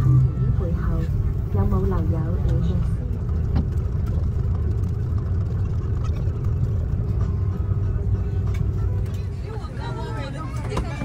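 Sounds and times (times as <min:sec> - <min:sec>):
constant hum: 0:00.0 - 0:11.0
engines and wheels rumbling: 0:00.0 - 0:11.0.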